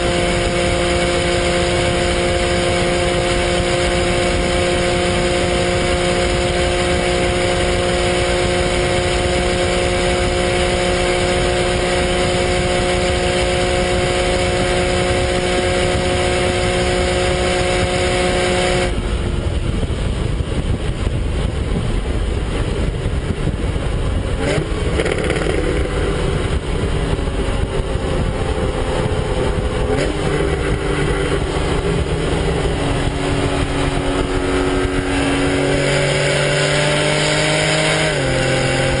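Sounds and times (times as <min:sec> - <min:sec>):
car engine from inside cabin: 0:00.0 - 0:39.0
wind and road roar: 0:00.0 - 0:39.0.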